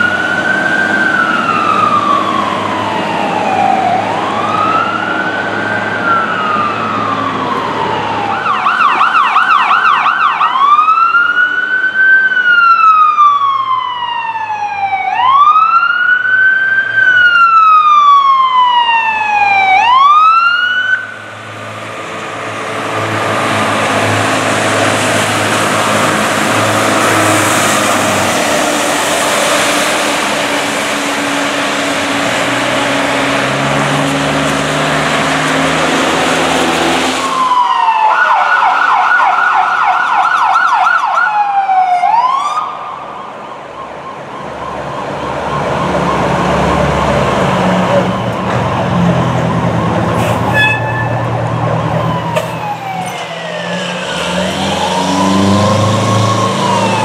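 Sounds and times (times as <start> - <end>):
truck engine: 0.0 - 40.1, 41.3 - 57.0
fire truck siren wailing and yelping: 0.0 - 57.0.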